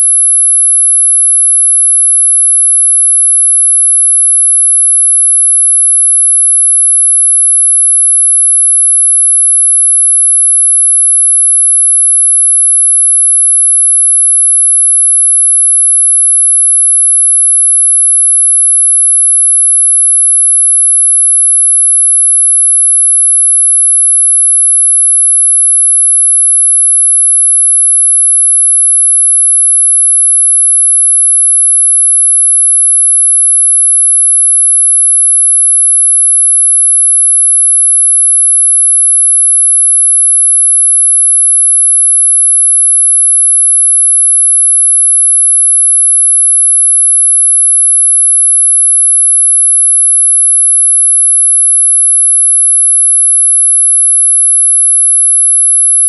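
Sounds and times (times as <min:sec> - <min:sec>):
high-pitched sine tone: 0:00.0 - 0:56.0.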